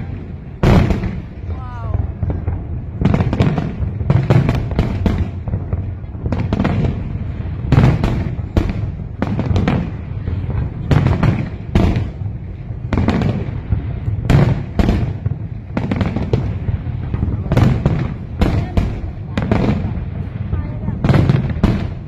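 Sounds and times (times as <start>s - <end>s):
fireworks bangs and booms: 0.0s - 22.0s
rumbling echo: 0.0s - 22.0s.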